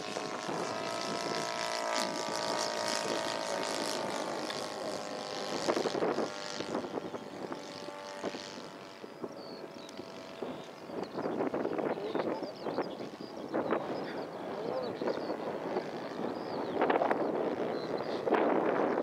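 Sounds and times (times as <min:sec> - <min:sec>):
model plane engine droning: 0:00.0 - 0:19.0.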